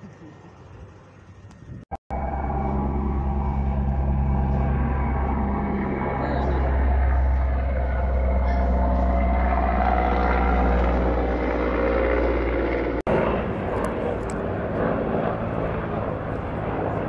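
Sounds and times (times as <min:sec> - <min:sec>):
helicopter flying overhead: 0:00.0 - 0:17.0.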